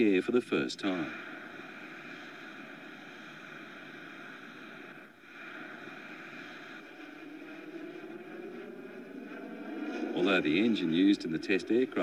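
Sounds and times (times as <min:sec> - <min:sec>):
jet engine running: 0:00.9 - 0:12.0.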